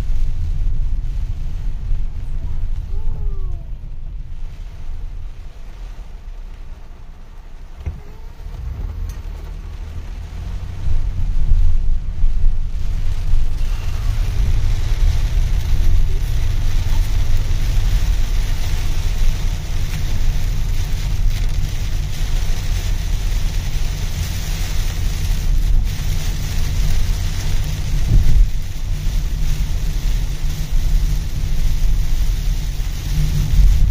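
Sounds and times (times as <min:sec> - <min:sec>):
heavy rain hissing on a car: 0:00.0 - 0:33.9
low road rumble: 0:00.0 - 0:33.9.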